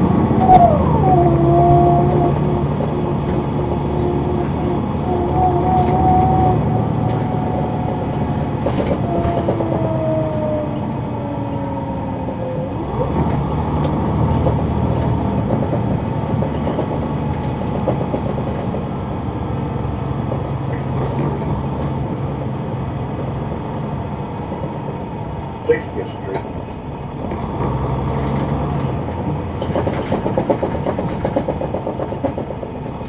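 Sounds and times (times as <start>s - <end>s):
bus body rattles and creaks: 0.0s - 33.0s
bus diesel engine drone: 0.0s - 33.0s.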